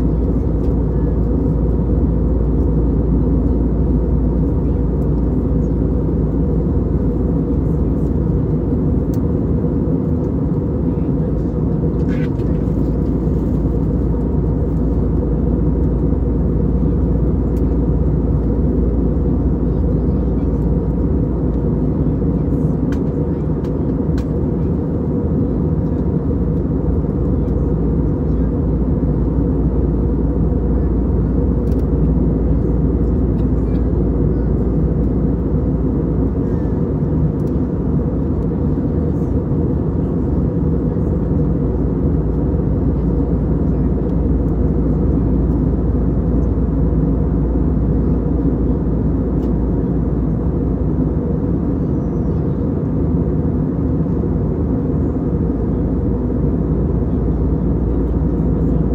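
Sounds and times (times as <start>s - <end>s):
airplane cabin roar: 0.0s - 58.9s.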